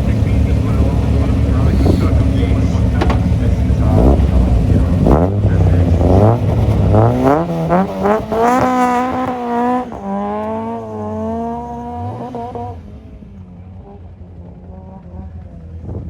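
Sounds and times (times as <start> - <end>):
rally car accelerating hard: 0.0 - 16.0.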